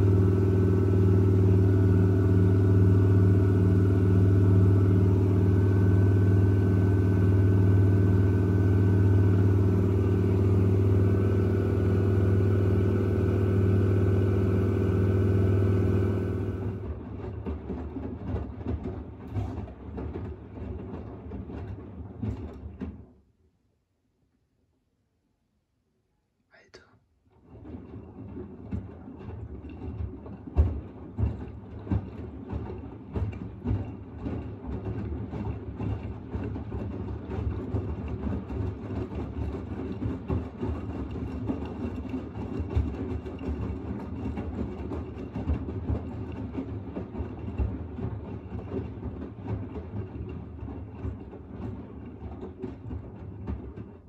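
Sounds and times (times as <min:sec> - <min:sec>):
washing machine hum: 0:00.0 - 0:22.8, 0:27.5 - 0:54.0.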